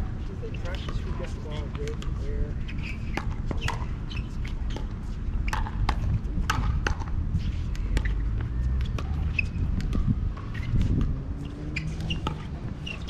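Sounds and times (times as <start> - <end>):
ball bouncing on hard court: 0.4 - 13.0.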